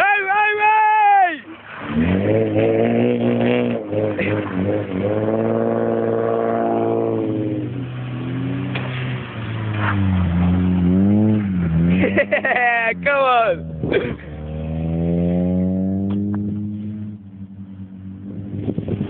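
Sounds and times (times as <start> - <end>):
car engines revving hard: 1.4 - 19.0
low engine hum: 1.5 - 19.0.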